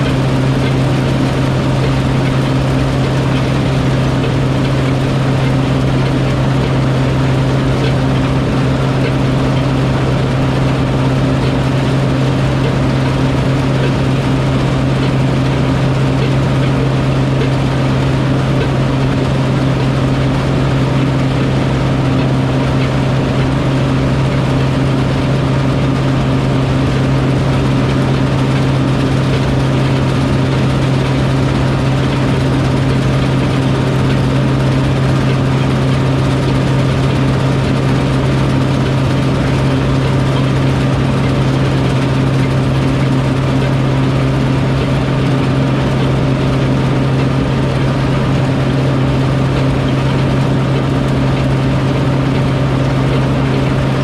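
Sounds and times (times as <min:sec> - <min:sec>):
harvester engine droning: 0:00.0 - 0:54.0.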